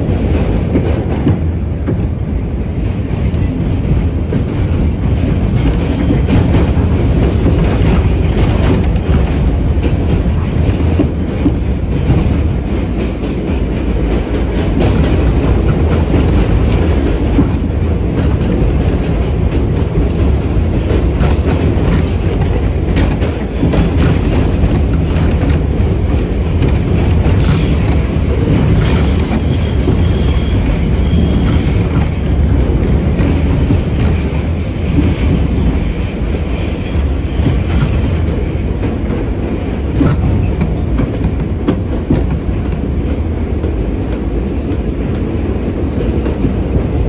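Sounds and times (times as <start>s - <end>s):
subway car rumbling: 0.0s - 47.0s.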